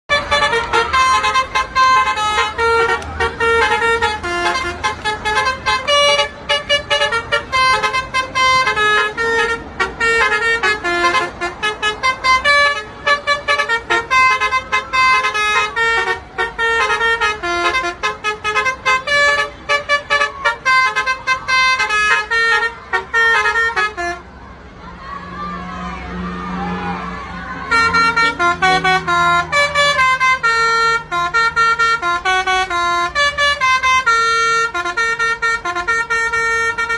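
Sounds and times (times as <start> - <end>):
bus horn playing melodic tune: 0.0 - 24.4, 25.4 - 36.9.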